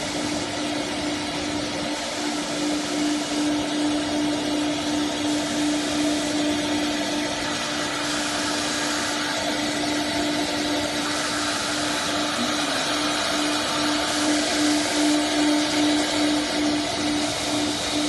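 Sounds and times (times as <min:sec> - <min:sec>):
broad rushing noise: 0:00.0 - 0:18.0
router spindle whine: 0:00.0 - 0:18.0.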